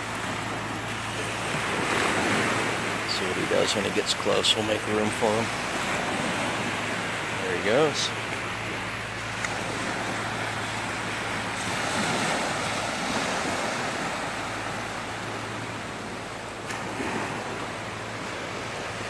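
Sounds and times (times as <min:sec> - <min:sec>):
small waves washing on beach: 0:00.0 - 0:19.0.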